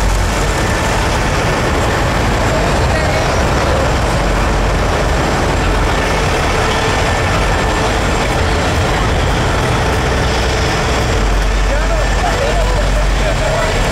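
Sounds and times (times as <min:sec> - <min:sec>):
heavy vehicle engines rumbling: 0:00.0 - 0:13.9.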